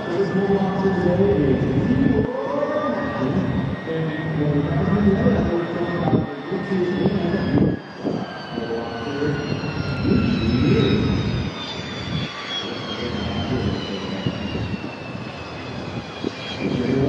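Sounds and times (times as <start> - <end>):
jet engine rush with high whine: 0.0 - 17.0.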